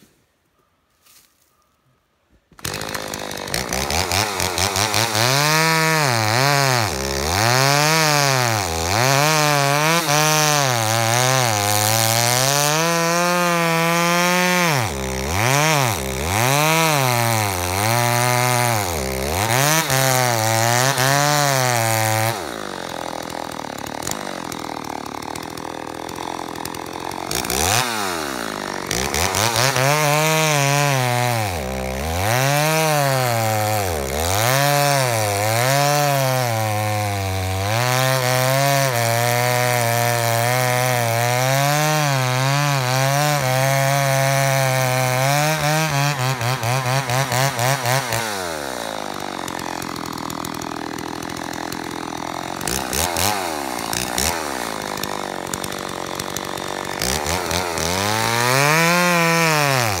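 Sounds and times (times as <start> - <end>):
chainsaw cutting log: 2.5 - 60.0.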